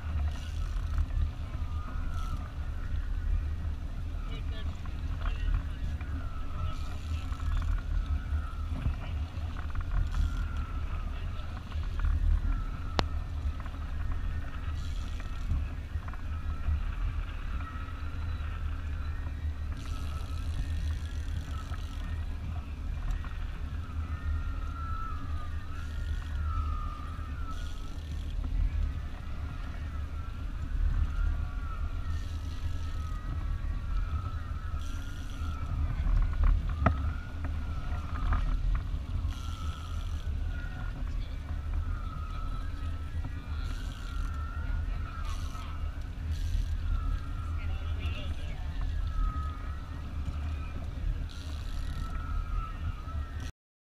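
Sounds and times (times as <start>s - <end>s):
boat motor running: 0.0s - 53.5s
thin wavering whine: 0.0s - 53.5s
wind on microphone: 0.0s - 53.5s.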